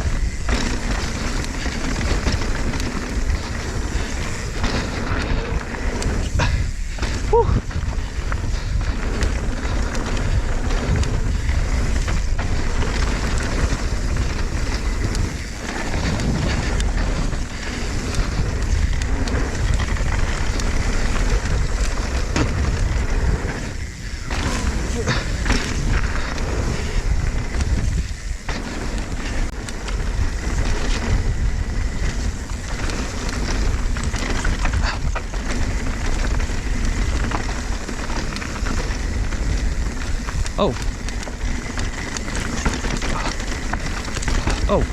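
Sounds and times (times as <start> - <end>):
bike rattles and knocks: 0.0 - 44.9
bike tyre noise: 0.0 - 44.9
wind rushing on microphone: 0.0 - 44.9.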